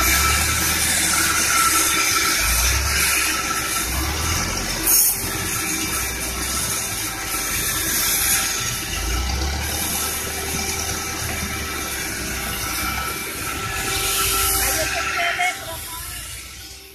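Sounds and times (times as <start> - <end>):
bandsaw running: 0.0 - 16.9.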